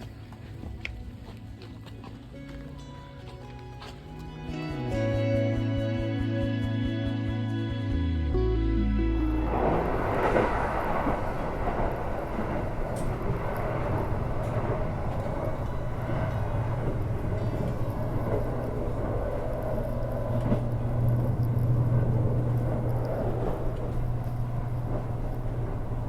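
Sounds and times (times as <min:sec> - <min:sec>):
vehicle running rumble: 0:00.0 - 0:26.0.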